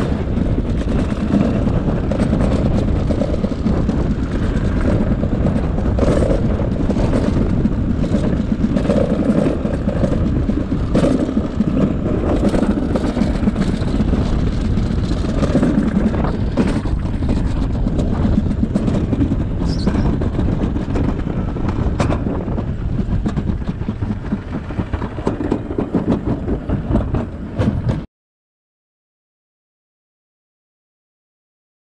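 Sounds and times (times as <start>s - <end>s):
sled knocking: 0.0s - 28.1s
sled rumbling down metal trough: 0.0s - 28.1s.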